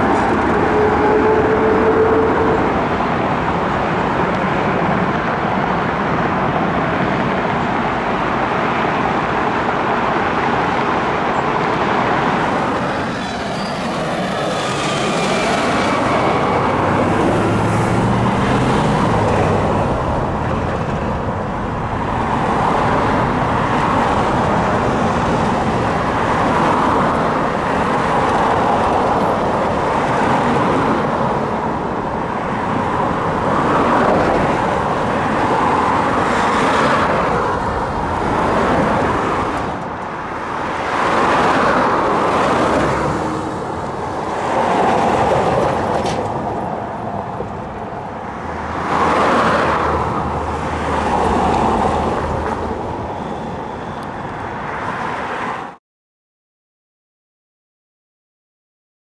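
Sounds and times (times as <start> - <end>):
cars passing by: 0.0 - 55.8.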